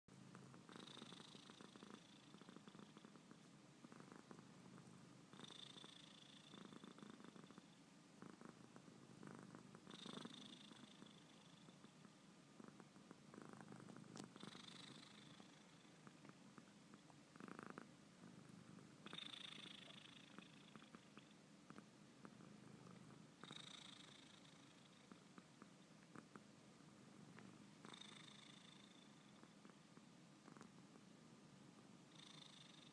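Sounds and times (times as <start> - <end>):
cat snoring: 0.3 - 12.0, 12.6 - 26.4, 27.4 - 29.8, 32.1 - 32.9.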